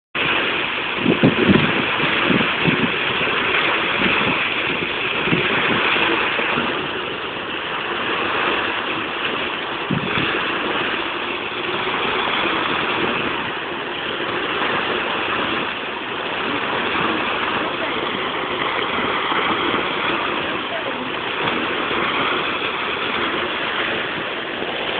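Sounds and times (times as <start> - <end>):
water splashing over fountain steps: 0.2 - 24.9.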